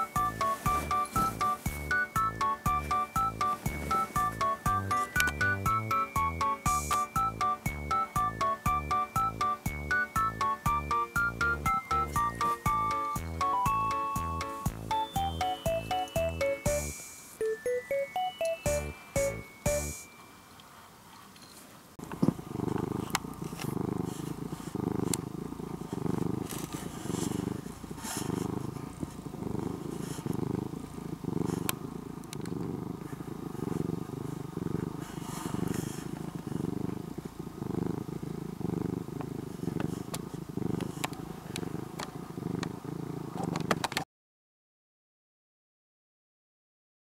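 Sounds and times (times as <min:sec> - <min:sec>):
cat purring: 0:00.0 - 0:17.0, 0:22.0 - 0:43.9.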